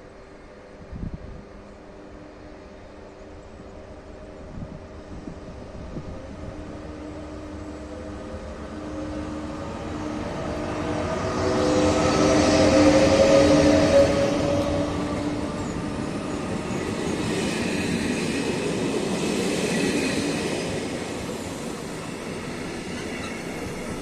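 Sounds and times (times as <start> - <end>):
electric locomotive humming: 0.0 - 24.0.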